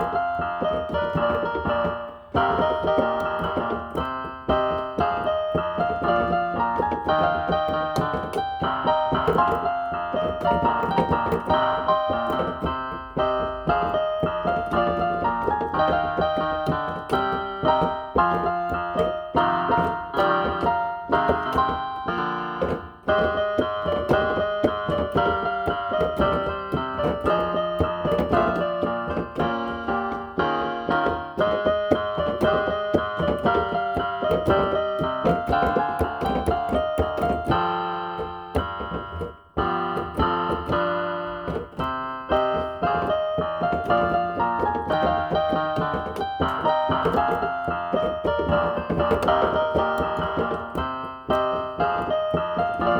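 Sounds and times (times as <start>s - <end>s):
electronic keyboard piano melody: 0.0s - 52.9s.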